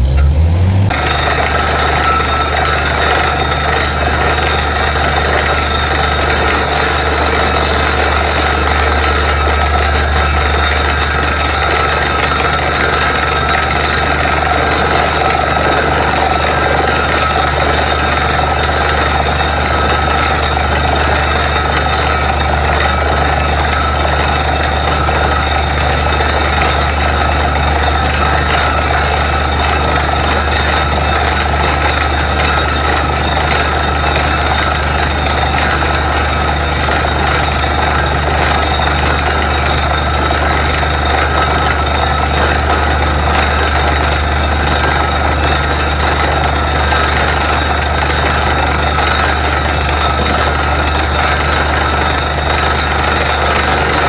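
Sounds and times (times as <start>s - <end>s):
drilling rig engine drone: 0.0s - 54.0s
steady whine: 0.0s - 54.0s.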